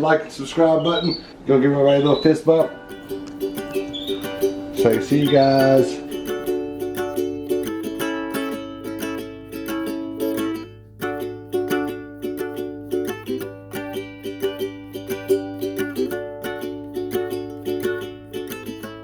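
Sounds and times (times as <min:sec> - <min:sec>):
upbeat ukulele strumming music: 0:02.4 - 0:19.0.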